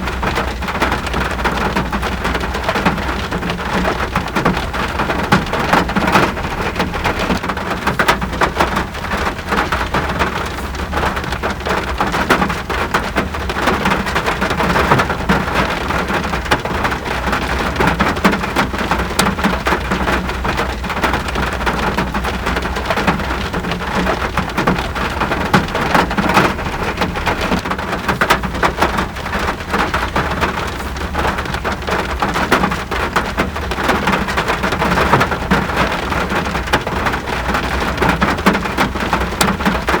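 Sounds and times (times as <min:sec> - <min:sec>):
dense rainfall: 0:00.0 - 0:40.0.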